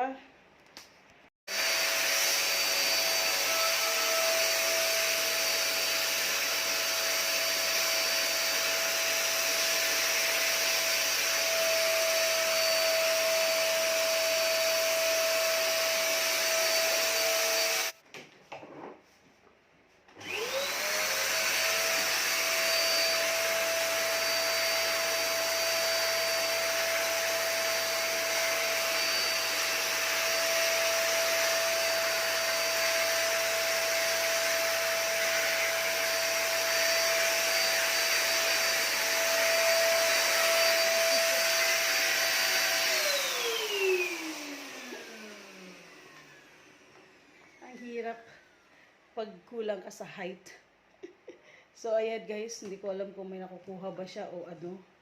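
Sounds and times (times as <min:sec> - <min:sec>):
vacuum cleaner running: 0:01.5 - 0:18.0, 0:20.1 - 0:48.6.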